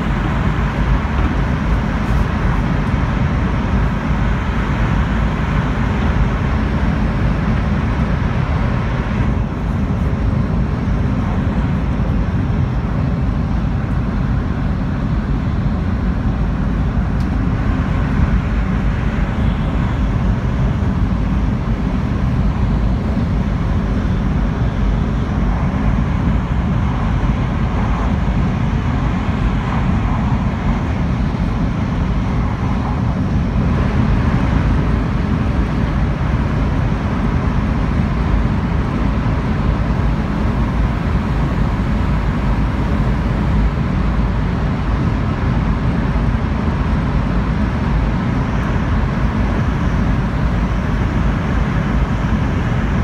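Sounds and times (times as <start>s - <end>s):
train running rumble: 0.0s - 53.0s.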